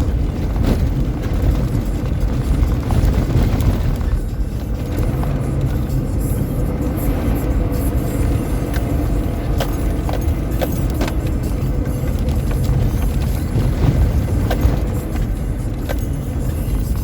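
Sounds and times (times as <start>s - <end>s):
clicks and rattles: 0.0s - 17.0s
vehicle rumbling off-road: 0.0s - 17.0s.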